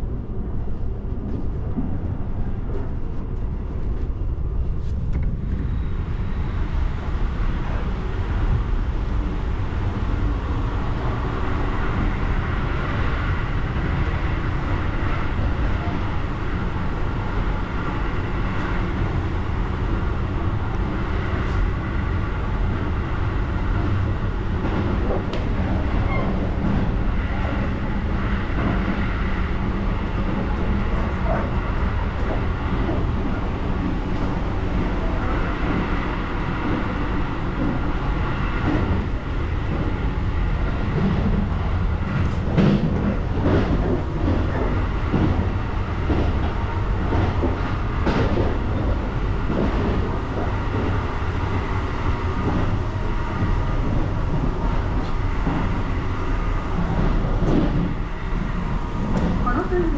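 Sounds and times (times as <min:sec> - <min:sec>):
low rumble of moving train: 0:00.0 - 0:59.9.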